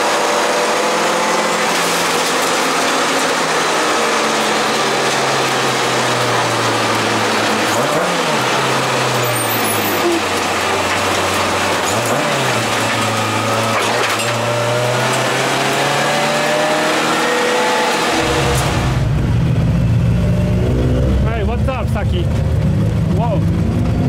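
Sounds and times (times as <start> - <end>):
car engine running under load: 0.0 - 24.0.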